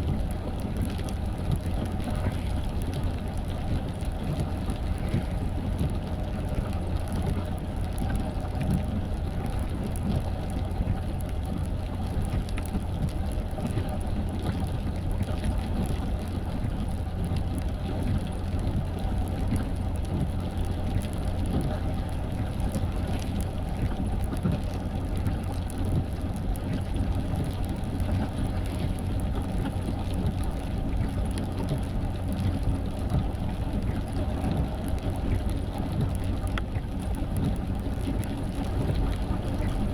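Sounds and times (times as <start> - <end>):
car road and engine rumble: 0.0 - 39.9
rain on a car: 0.0 - 39.9.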